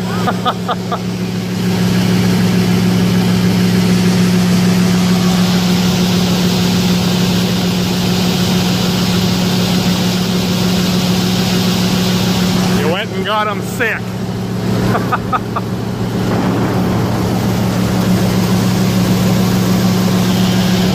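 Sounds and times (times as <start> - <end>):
combine engine drone: 0.0 - 20.9.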